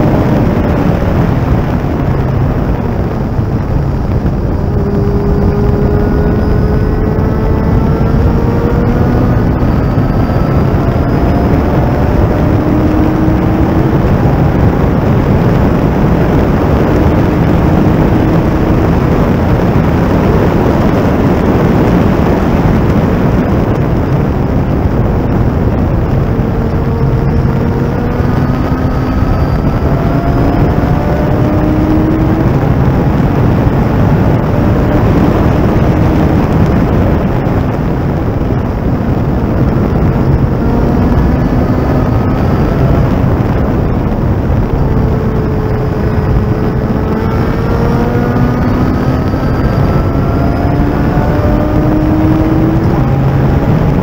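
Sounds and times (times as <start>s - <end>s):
race car engine accelerating: 0.0s - 54.0s
wind rush: 0.0s - 54.0s.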